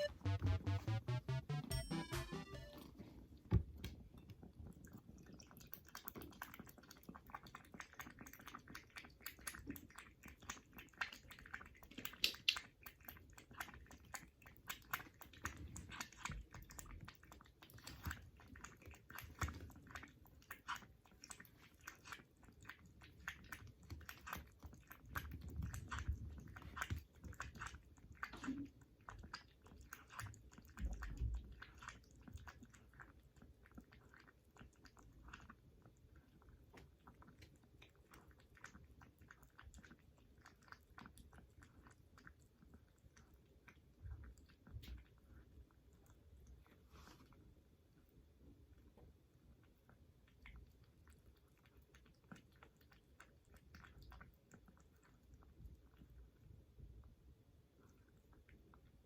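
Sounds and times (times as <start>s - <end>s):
kitten lapping milk: 3.2s - 59.0s.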